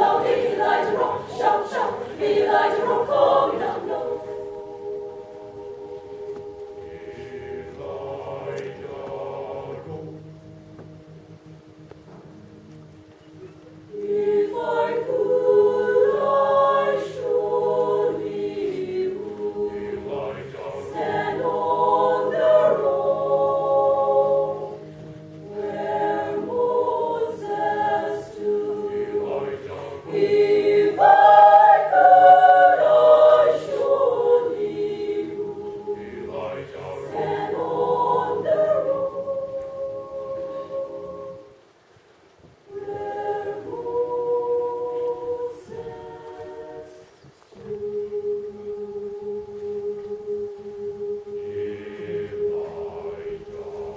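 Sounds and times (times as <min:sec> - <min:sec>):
mixed choir singing a cappella: 0:00.0 - 0:10.6, 0:13.9 - 0:41.7, 0:42.7 - 0:53.9.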